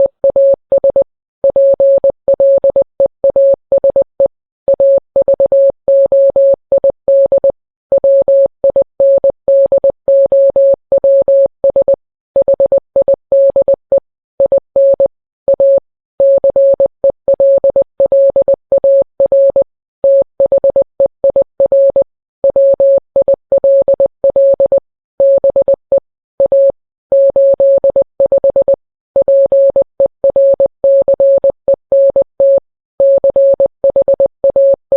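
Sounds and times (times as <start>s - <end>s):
morse code beeps: 0.0s - 34.9s.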